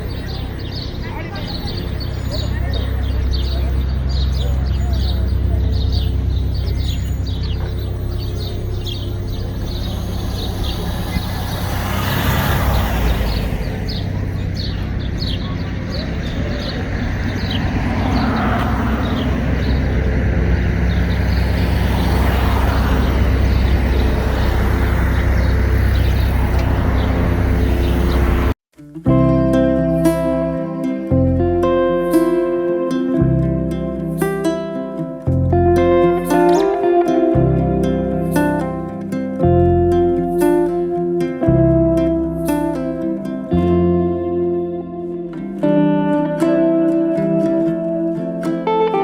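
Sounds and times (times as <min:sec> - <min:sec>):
engine humming: 0:00.0 - 0:49.0.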